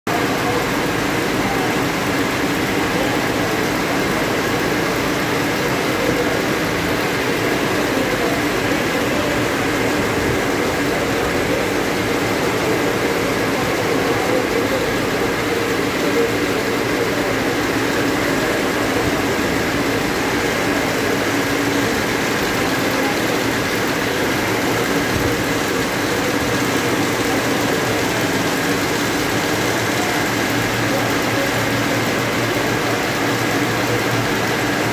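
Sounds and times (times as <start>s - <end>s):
loom mechanical clatter: 0.1s - 34.9s.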